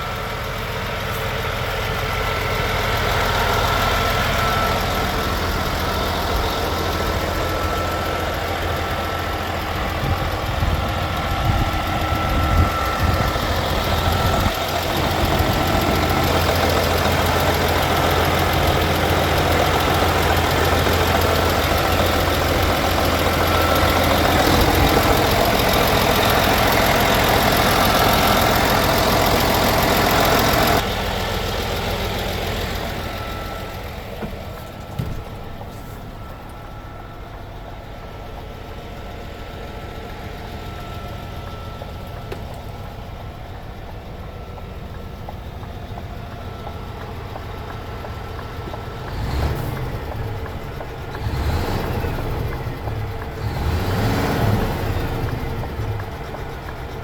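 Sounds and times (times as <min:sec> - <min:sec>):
faint engine whine: 0:00.0 - 0:57.0
truck diesel engine idling: 0:00.0 - 0:57.0.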